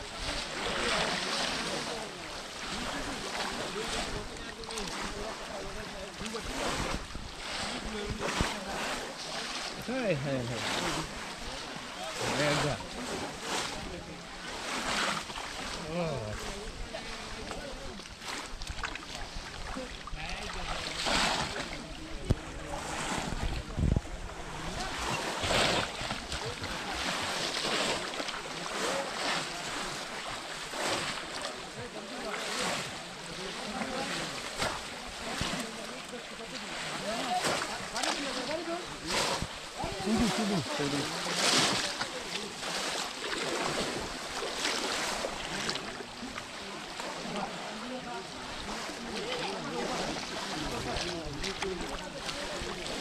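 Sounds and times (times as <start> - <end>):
muddy water splashing: 0.0 - 53.0.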